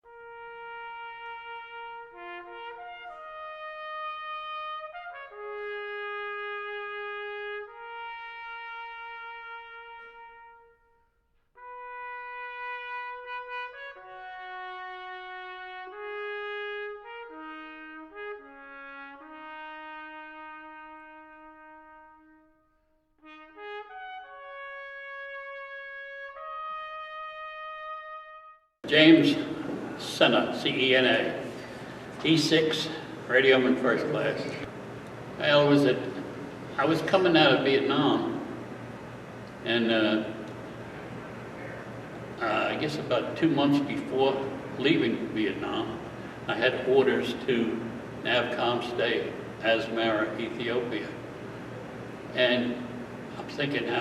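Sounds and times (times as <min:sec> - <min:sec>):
slow brass melody: 0:00.0 - 0:54.0.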